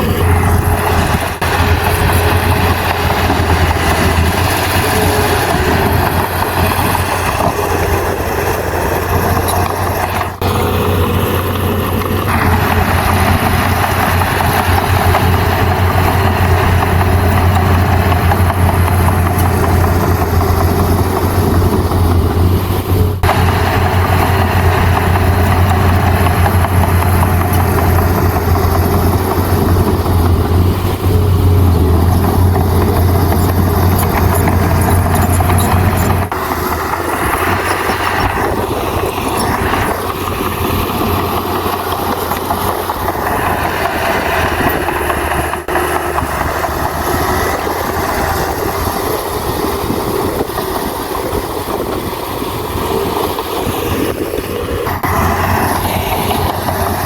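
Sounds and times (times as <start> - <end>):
heavy diesel machinery engine: 0.0 - 57.0
rough mechanical noise: 0.0 - 57.0.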